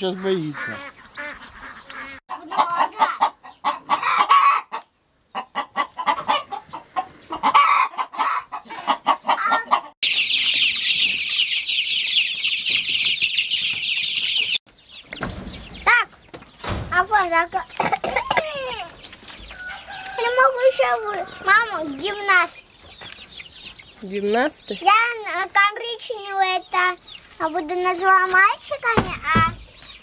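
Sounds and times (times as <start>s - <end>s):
chickens clucking: 0.0s - 30.0s
chicks peeping: 0.0s - 30.0s.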